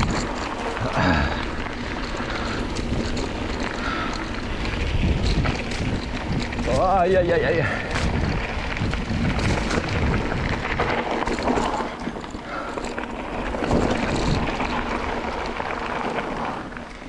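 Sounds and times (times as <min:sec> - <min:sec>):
wind buffeting microphone: 0:00.0 - 0:16.5
small clicks and rattles: 0:00.0 - 0:17.0
tyres crunching on gravel: 0:00.0 - 0:17.0.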